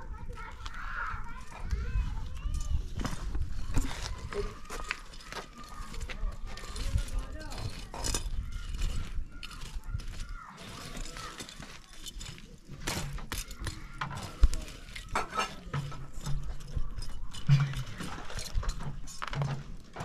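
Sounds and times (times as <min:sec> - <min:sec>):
dishes and utensils clattering: 0:03.7 - 0:20.0.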